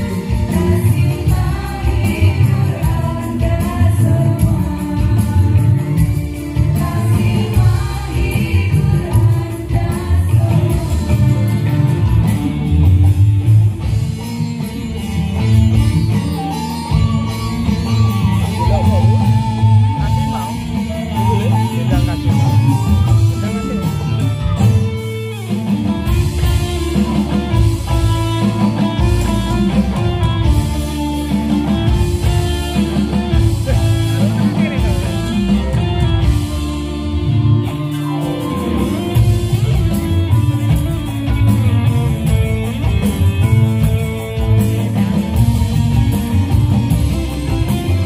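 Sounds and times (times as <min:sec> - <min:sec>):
bass guitar: 0:00.0 - 0:48.0
drums beating: 0:00.0 - 0:48.0
electric guitars: 0:00.0 - 0:48.0.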